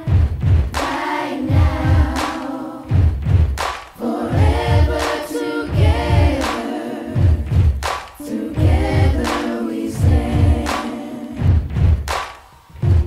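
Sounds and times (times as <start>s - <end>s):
choir singing in unison: 0.0s - 3.2s, 4.0s - 11.7s
backing music with steady beat: 0.0s - 13.0s.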